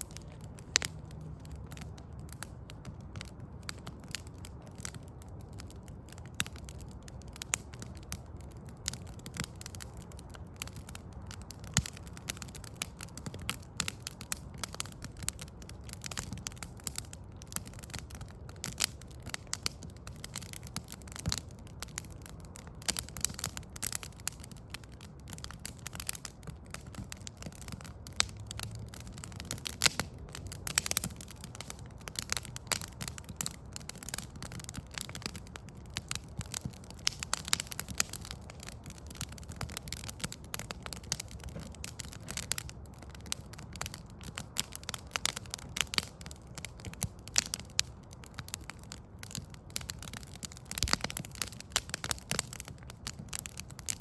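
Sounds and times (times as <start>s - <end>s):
low steady rumble: 0.0s - 47.4s
wood fire crackling and popping: 0.0s - 54.0s.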